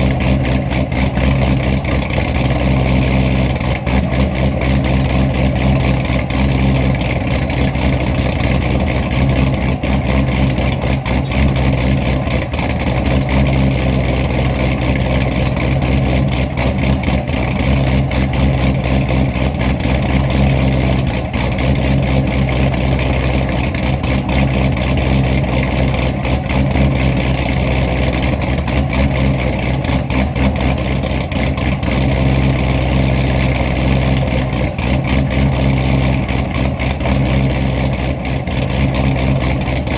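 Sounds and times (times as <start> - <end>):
car engine idling with choppy lope: 0.0 - 39.9.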